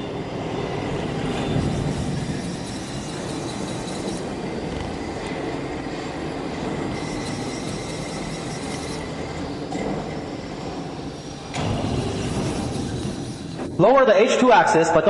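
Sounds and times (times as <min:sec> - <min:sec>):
panel bender machine running: 0:00.0 - 0:14.4
faint high whine: 0:00.0 - 0:15.0.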